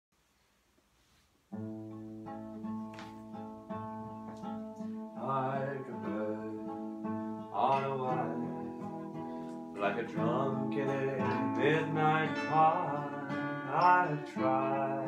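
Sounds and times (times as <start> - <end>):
acoustic guitar chords: 1.5 - 15.0.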